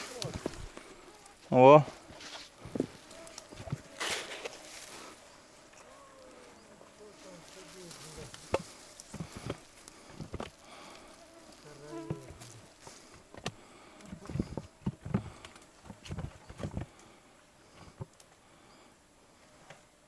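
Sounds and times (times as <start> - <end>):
handling knocks and rustles: 0.0 - 6.4, 7.0 - 17.0
fly buzzing: 0.0 - 20.0.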